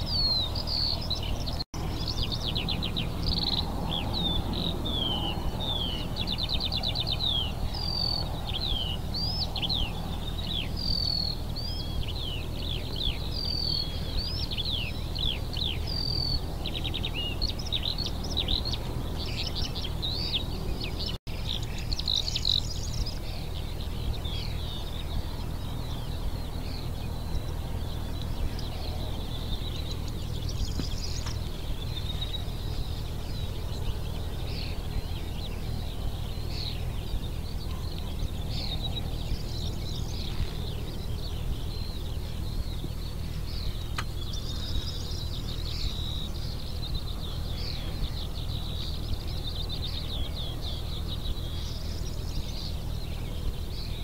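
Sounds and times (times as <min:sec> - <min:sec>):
low background rumble: 0:00.0 - 0:54.0
songbirds chirping and trilling: 0:00.0 - 0:54.0.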